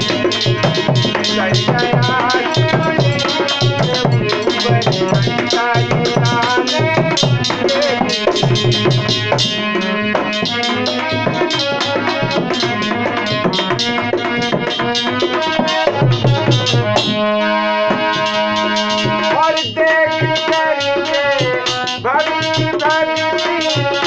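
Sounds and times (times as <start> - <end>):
fast drum rhythm: 0.0 - 24.0
instrumental melody: 0.0 - 24.0.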